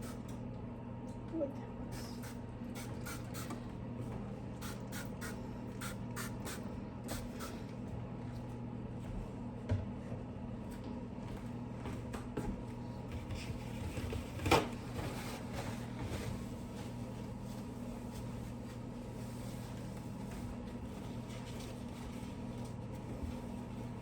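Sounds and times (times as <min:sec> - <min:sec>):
low appliance hum: 0:00.0 - 0:24.0.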